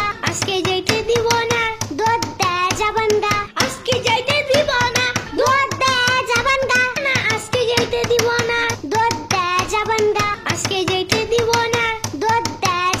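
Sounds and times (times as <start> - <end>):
clap-like beat: 0.0 - 13.0
high-pitched voice singing: 0.0 - 13.0.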